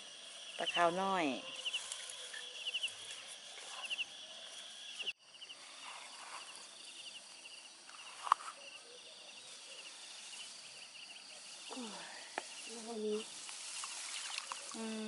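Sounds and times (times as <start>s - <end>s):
high insect hum: 0.0s - 15.0s
insects chirping in trills: 0.0s - 15.0s.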